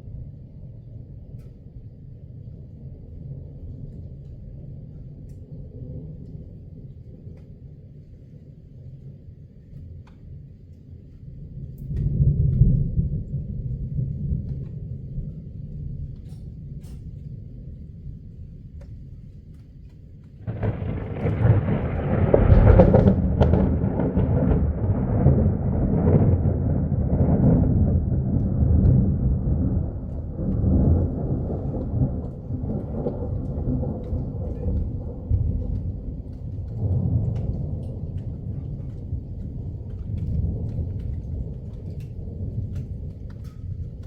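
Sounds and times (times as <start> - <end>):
thunder clap and rumble: 0.0 - 44.0
rain falling: 3.2 - 44.0.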